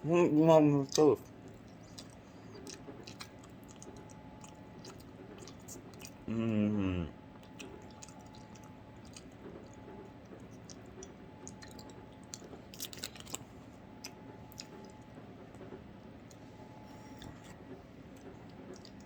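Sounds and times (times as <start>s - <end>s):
person chewing: 0.2s - 15.6s, 16.2s - 19.0s.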